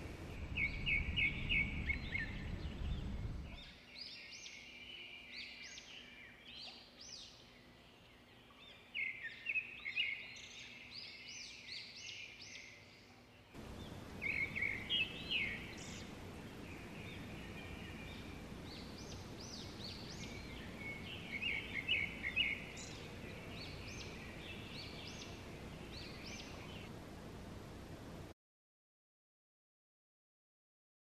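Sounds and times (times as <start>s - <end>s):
background hiss: 0.0s - 28.3s
birds chirping: 0.0s - 28.3s.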